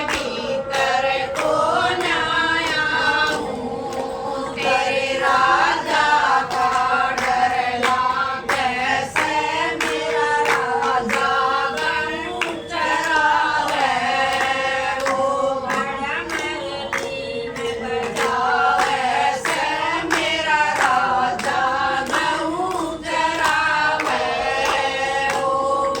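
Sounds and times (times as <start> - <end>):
group of women singing: 0.0 - 26.0
hand claps: 0.0 - 26.0.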